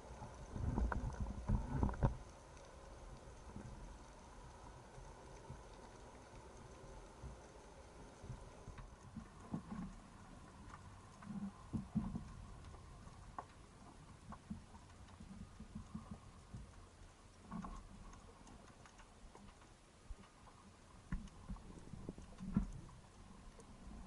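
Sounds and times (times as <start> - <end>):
faint underwater clicks: 0.0 - 24.0
low underwater rumble: 0.0 - 24.0.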